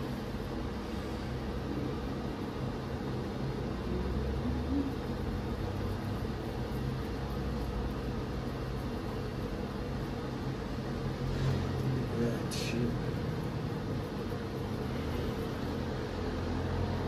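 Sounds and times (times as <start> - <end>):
low mechanical hum with tones: 0.0 - 17.0.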